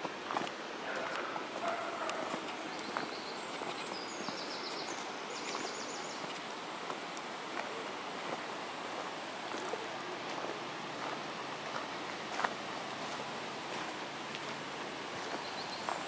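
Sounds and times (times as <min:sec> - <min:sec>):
forest stream rushing: 0:00.0 - 0:16.0
soft footsteps on gravel: 0:00.0 - 0:16.0.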